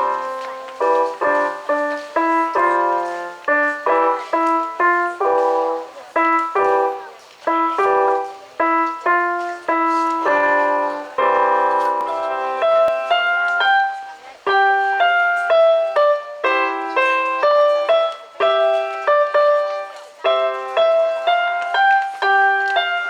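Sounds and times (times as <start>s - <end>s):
piano melody: 0.0s - 23.0s.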